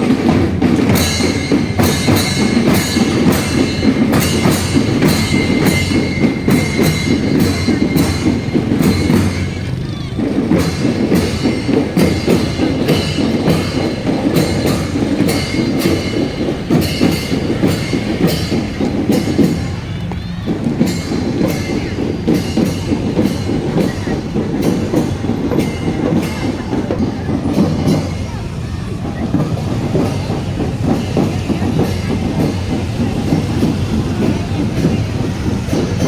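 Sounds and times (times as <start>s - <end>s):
marching drum band: 0.0s - 36.0s.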